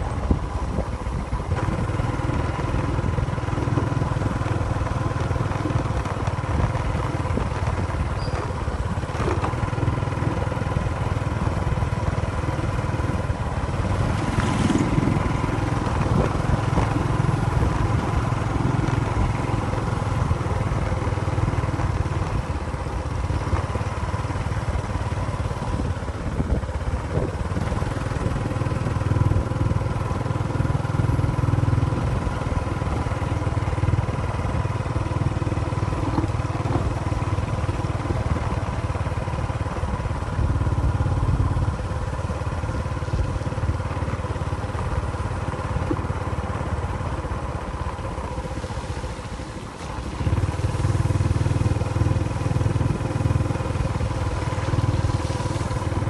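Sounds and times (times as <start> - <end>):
motor running with low rumble: 0.0 - 56.0.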